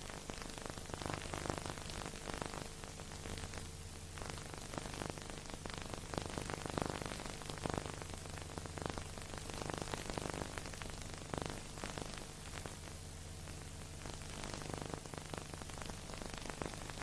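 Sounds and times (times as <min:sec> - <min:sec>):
crackling hiss: 0:00.0 - 0:17.0.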